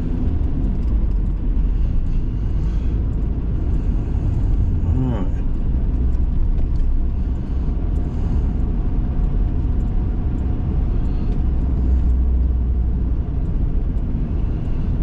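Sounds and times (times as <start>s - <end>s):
car engine rumbling: 0.0s - 15.0s
road noise: 0.0s - 15.0s.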